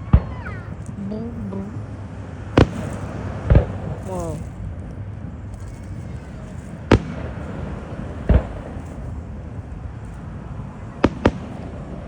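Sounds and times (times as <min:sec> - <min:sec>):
fireworks booming: 0:00.0 - 0:04.8, 0:05.7 - 0:12.0
background noise: 0:00.0 - 0:12.0.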